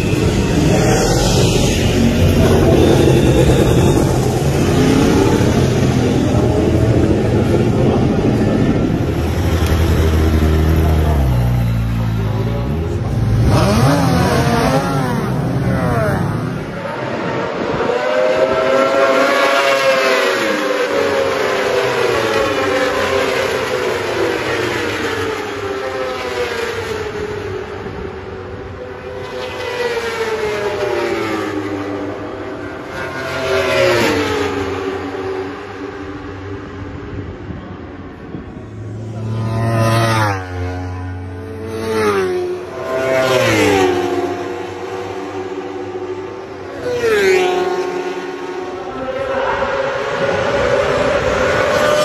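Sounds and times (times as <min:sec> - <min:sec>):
motorbikes passing at high revs: 0:00.0 - 0:52.0.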